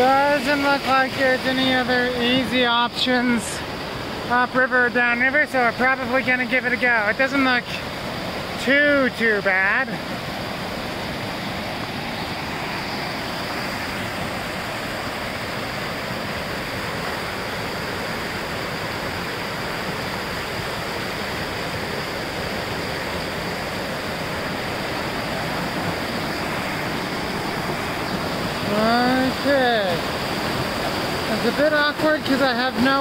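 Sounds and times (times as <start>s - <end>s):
whitewater river rushing: 0.0s - 33.0s.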